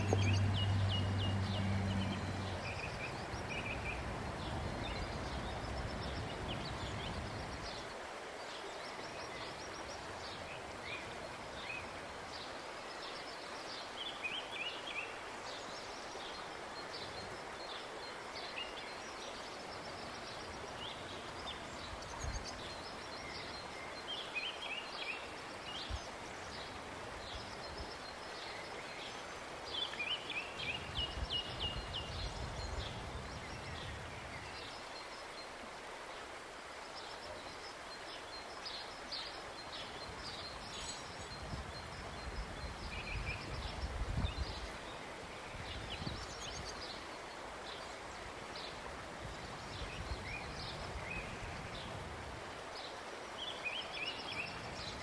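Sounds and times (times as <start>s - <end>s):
songbirds chirping: 0.0s - 55.0s
steady background hiss: 0.0s - 55.0s.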